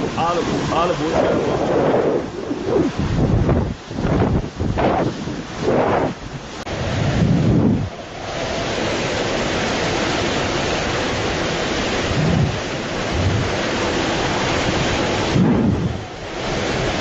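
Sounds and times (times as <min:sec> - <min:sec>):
hurricane wind rushing: 0:00.0 - 0:17.0
storm-surge water rushing: 0:00.0 - 0:17.0
wind gusts buffeting microphone: 0:00.0 - 0:17.0.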